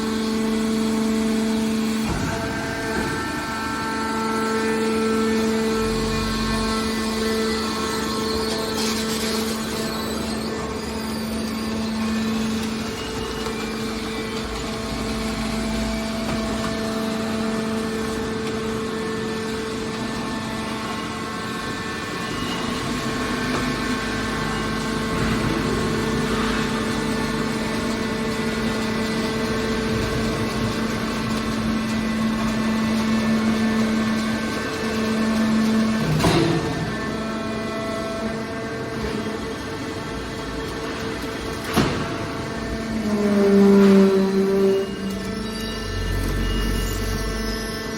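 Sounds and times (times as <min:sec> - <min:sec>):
machine power unit humming: 0:00.0 - 0:47.9.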